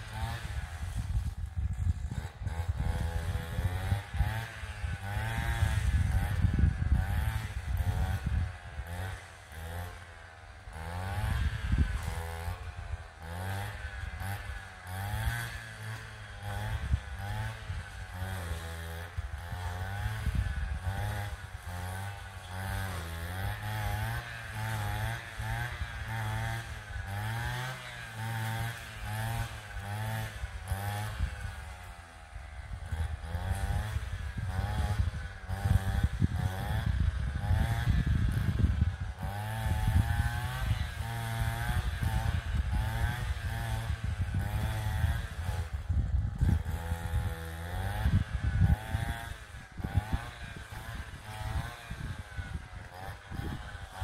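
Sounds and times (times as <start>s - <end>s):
small petrol engine running: 0.0s - 54.0s.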